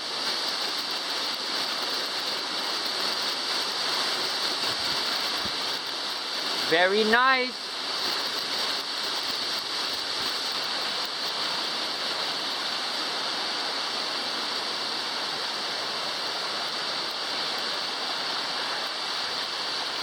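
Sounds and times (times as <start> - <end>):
waterfall rushing and splashing: 0.0 - 20.0.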